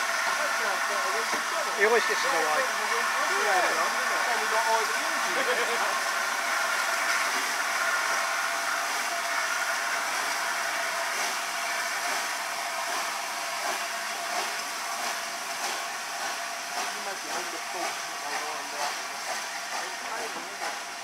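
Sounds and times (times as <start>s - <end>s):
steam hissing from locomotive: 0.0s - 21.0s.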